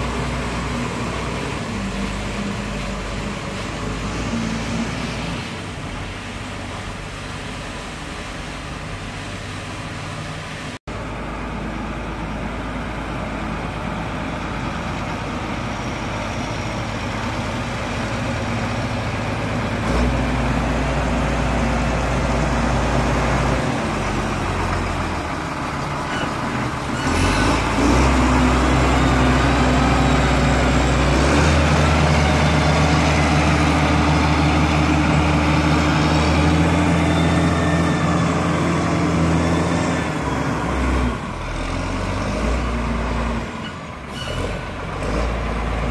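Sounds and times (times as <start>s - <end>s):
wheel loader diesel engine: 0.0s - 45.9s.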